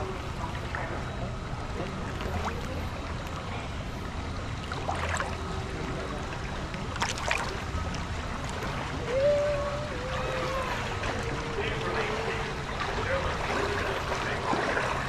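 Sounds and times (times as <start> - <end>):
rushing water: 0.0 - 15.0
water splashes: 0.0 - 15.0.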